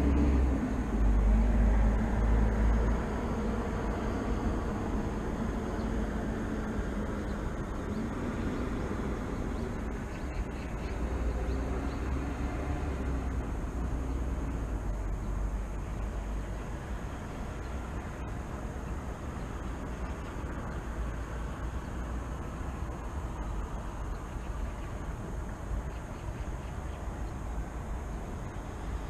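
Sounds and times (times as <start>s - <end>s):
distant city traffic rumble: 0.0s - 29.0s
faint high-pitched whine: 0.0s - 29.0s.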